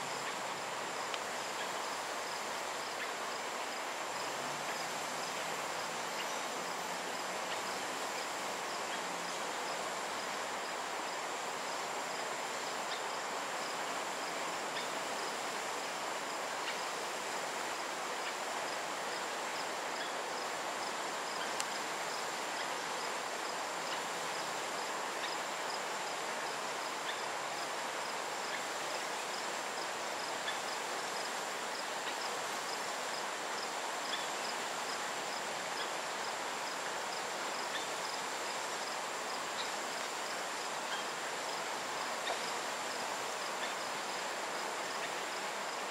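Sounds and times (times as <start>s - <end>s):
faint insect chirp: 0.0s - 45.9s
forest ambience hiss: 0.0s - 45.9s
insects droning: 0.0s - 45.9s.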